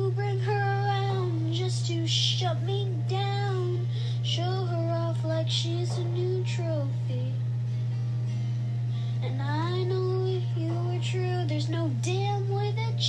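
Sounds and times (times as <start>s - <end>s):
low bass tone: 0.0s - 12.9s.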